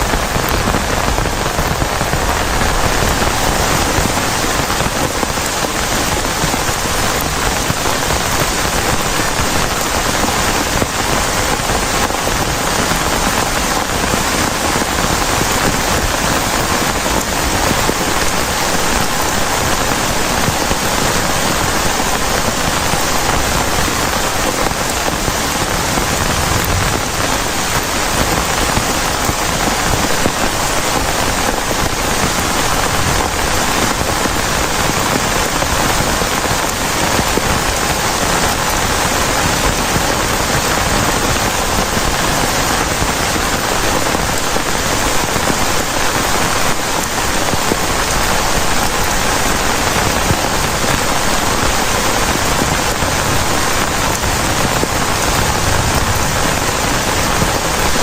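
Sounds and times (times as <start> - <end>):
heavy rain on a plastic tarp: 0.0 - 58.0.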